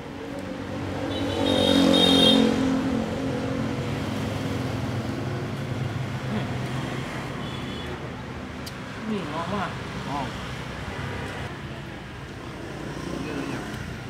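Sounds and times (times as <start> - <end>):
traffic hum: 0.0 - 14.0.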